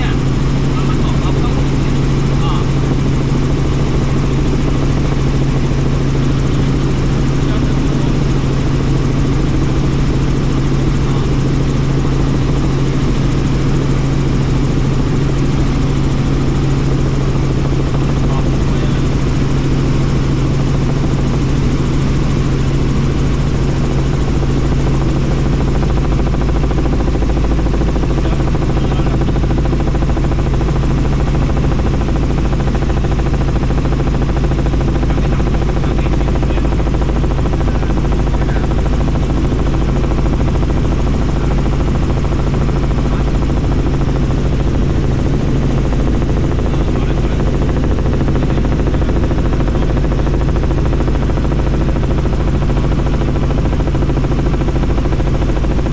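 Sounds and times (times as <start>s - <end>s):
helicopter engine drone from cabin: 0.0s - 55.9s.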